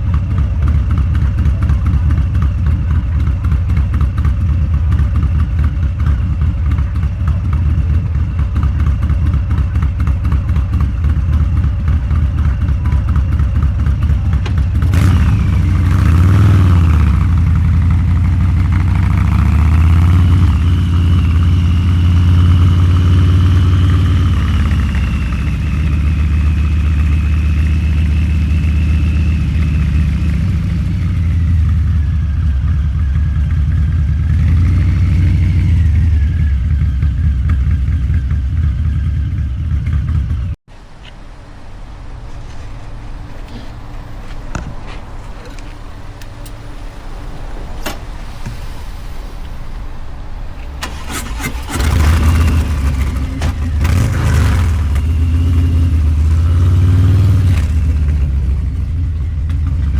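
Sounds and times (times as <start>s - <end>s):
motorcycle engine running loud: 0.0s - 40.6s, 50.8s - 59.9s.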